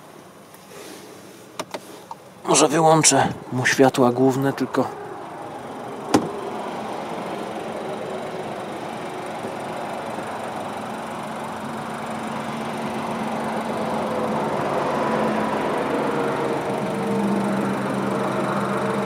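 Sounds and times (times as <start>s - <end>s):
car engine idling with clatter: 0.0s - 19.0s.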